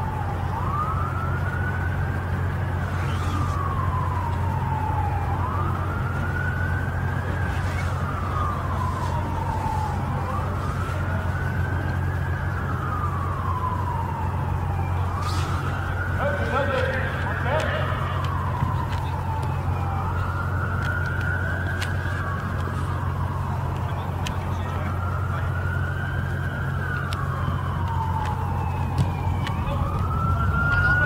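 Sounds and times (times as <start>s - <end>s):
siren wailing: 0.0s - 31.0s.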